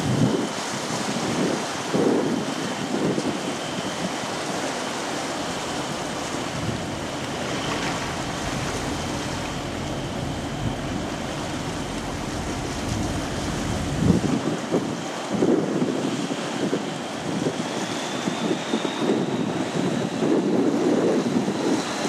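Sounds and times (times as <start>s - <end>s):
churning water rushing: 0.0s - 22.0s
wind buffeting microphone: 0.0s - 22.0s.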